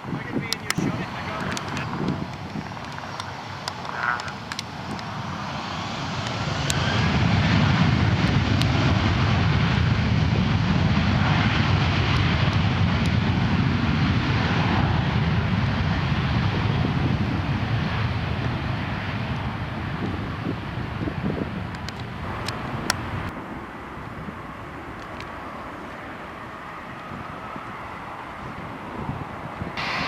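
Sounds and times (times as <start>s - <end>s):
jet airliner engines: 0.0s - 30.0s.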